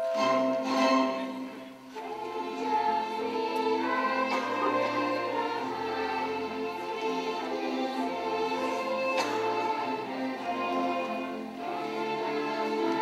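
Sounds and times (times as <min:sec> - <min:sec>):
instrumental accompaniment: 0:00.0 - 0:13.0
mixed choir singing: 0:00.0 - 0:13.0.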